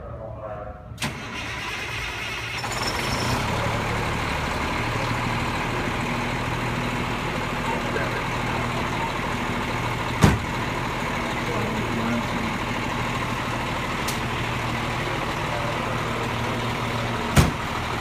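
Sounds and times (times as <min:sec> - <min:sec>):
fire truck diesel engine running: 0:01.0 - 0:18.0.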